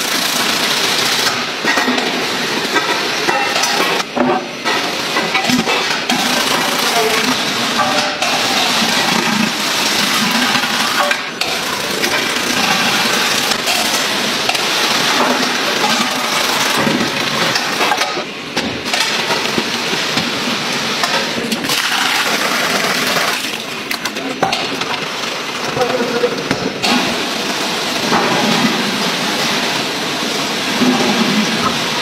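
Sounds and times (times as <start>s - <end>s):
machine clatter and hiss: 0.0s - 32.0s
metal trays clinking on conveyor: 0.0s - 32.0s.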